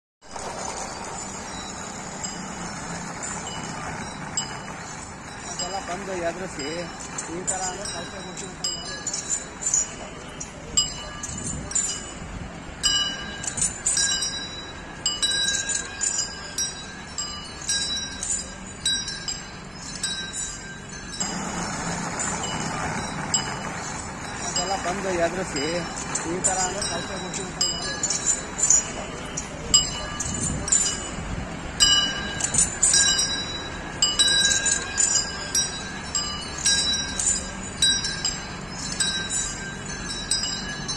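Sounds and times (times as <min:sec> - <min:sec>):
metal bells clanging: 0:00.3 - 0:40.9.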